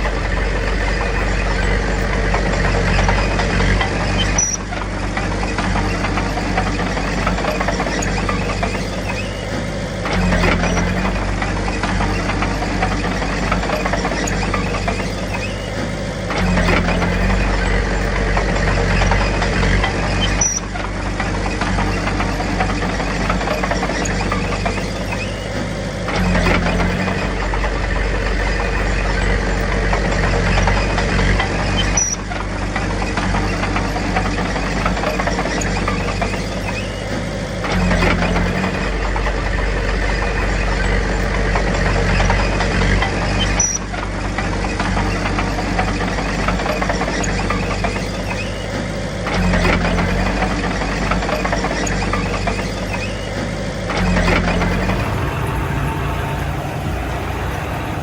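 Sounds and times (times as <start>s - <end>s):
bulldozer diesel engine revving: 0.0s - 46.9s, 53.8s - 58.0s.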